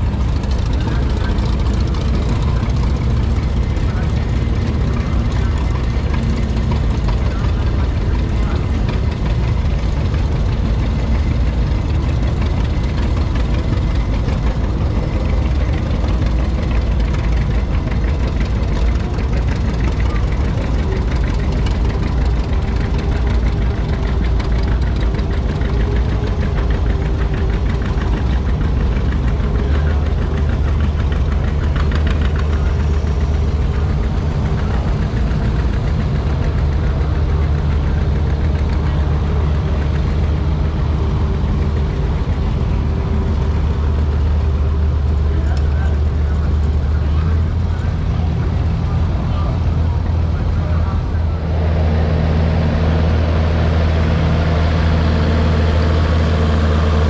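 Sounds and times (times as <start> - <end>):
tractor engines rumbling: 0.0 - 57.0.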